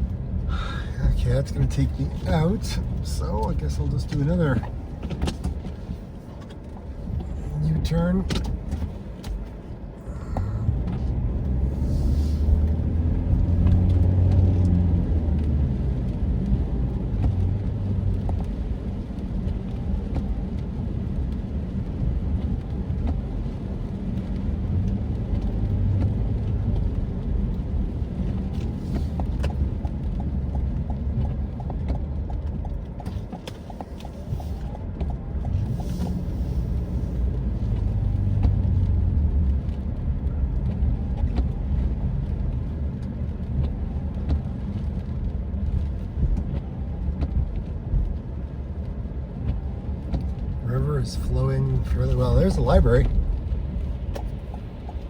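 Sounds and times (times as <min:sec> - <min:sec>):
car engine heard from cabin: 0:00.0 - 0:55.0
road rumble: 0:00.0 - 0:55.0.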